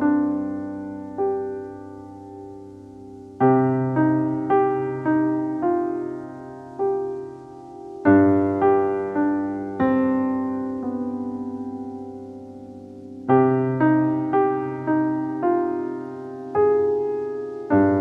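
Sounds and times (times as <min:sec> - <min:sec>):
low piano chords: 0:00.0 - 0:18.0
piano melody: 0:00.0 - 0:18.0.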